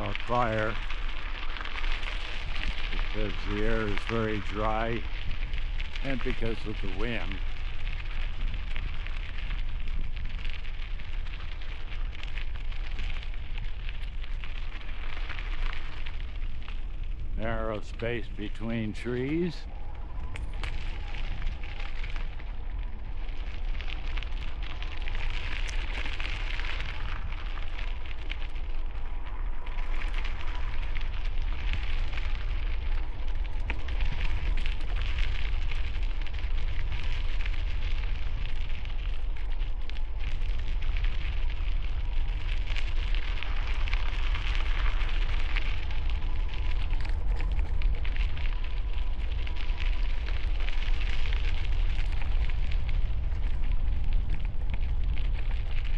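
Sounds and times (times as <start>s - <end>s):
bicycle tyres crackling: 0.0s - 55.9s
wind rumbling on microphone: 0.0s - 55.9s.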